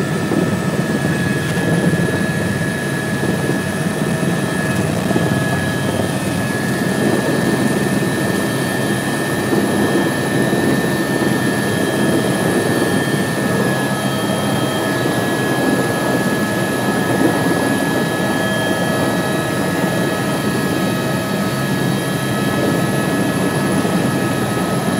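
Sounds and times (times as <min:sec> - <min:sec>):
helicopter rotor and engine: 0:00.0 - 0:24.9.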